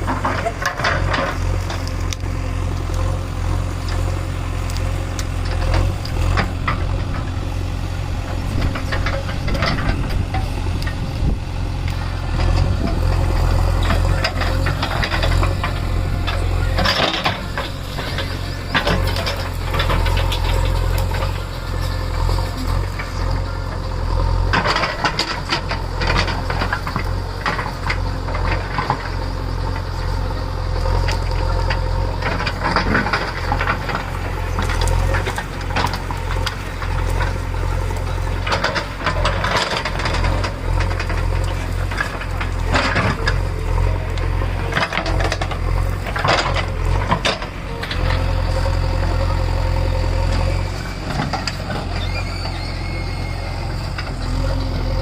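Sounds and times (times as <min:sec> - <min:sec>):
metallic clanks and rattles: 0:00.0 - 0:02.0, 0:08.2 - 0:11.3, 0:12.3 - 0:30.2, 0:30.8 - 0:52.2
diesel engine running under load: 0:00.0 - 0:55.0.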